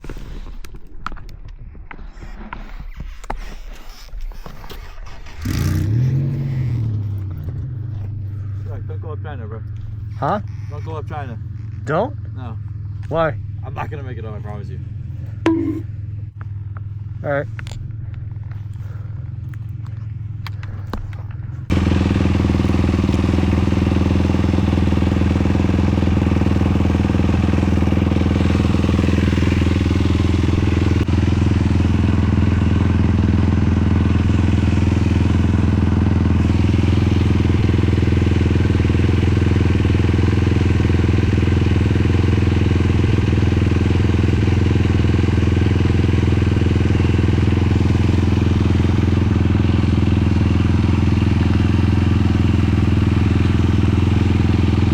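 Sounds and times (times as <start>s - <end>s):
quad engine running: 2.1s - 54.9s.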